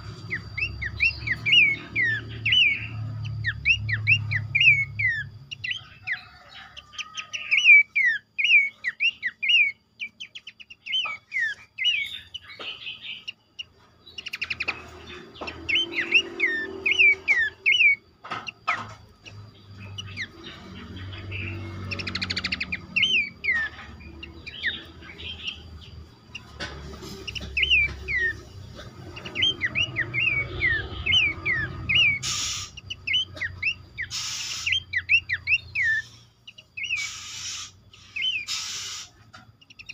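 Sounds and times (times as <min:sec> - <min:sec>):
birds chirping in chorus: 0:00.0 - 0:39.9.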